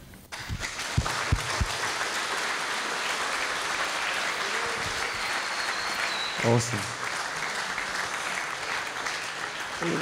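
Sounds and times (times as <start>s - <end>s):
audience applauding: 0.3s - 10.0s.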